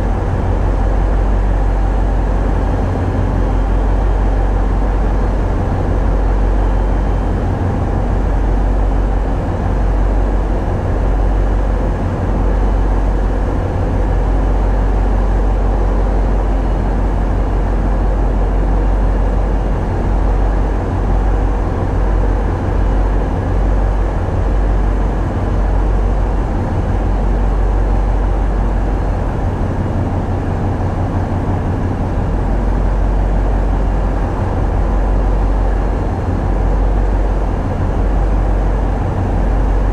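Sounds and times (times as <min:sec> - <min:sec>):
boat diesel engines running: 0:00.0 - 0:39.9.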